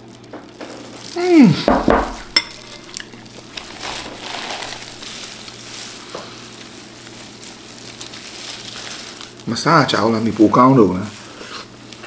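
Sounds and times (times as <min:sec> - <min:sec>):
plastic bag and gloves crinkling: 0:00.0 - 0:12.0
wet squishing of shrimp: 0:02.2 - 0:12.0.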